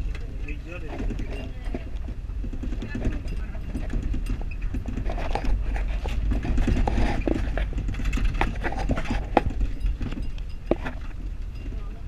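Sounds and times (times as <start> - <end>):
van interior low rumble: 0.0 - 12.0
knocks and rattles from van body: 0.7 - 12.0.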